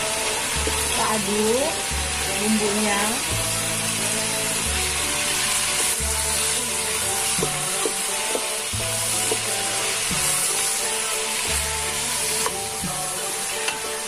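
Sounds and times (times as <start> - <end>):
background music: 0.0 - 14.0
chicken sizzling in hot oil: 0.0 - 14.0.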